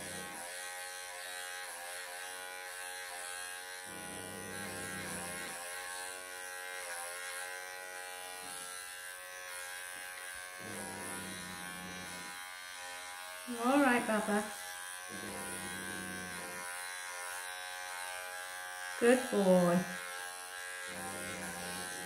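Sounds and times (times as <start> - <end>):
pet clipper buzzing: 0.0 - 22.0.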